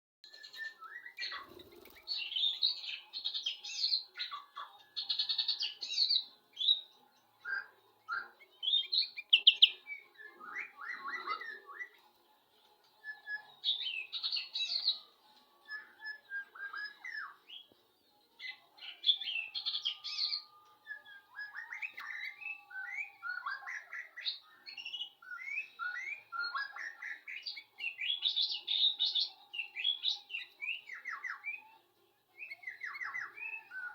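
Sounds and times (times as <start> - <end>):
bird chirping song: 0.2 - 33.9.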